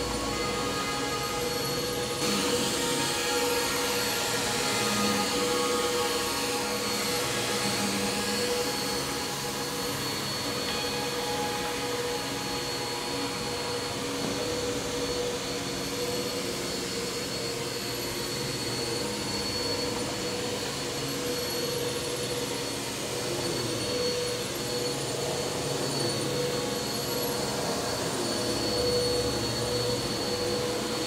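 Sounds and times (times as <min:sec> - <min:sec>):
vacuum cleaner motor whining: 0:00.0 - 0:31.0.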